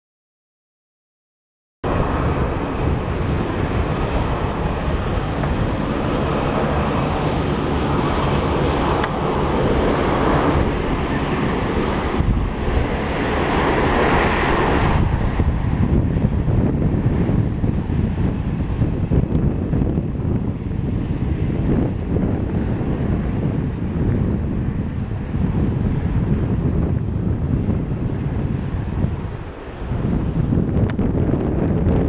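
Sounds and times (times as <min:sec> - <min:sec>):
jet airliner engines landing: 0:01.8 - 0:32.0.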